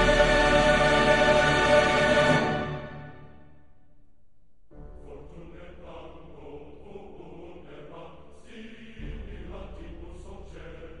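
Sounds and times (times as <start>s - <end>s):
choir-like chanted vocals: 0.0s - 3.3s, 5.0s - 11.0s.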